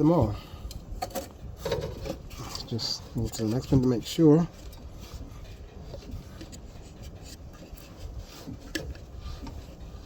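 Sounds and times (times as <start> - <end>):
hands rubbing and scraping on engine: 1.6 - 10.0.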